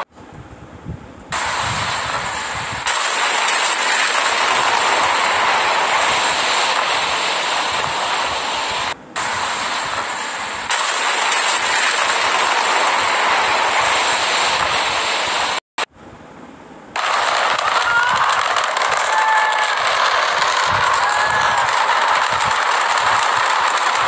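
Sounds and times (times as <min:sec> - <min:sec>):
loud rushing noise: 0:01.3 - 0:15.9, 0:17.0 - 0:24.0.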